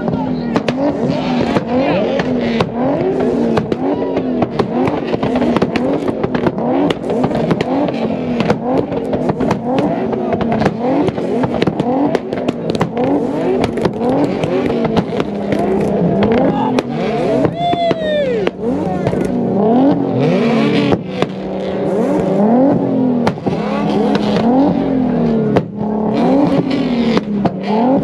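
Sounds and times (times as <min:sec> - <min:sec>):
car engines revving hard: 0:00.0 - 0:28.0
exhaust pops and crackles: 0:00.0 - 0:28.0.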